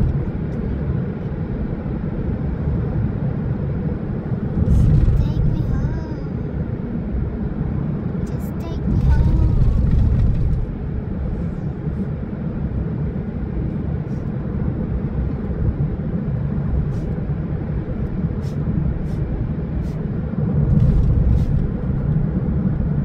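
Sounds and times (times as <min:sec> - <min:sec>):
car cabin tyre and engine rumble: 0:00.0 - 0:23.0.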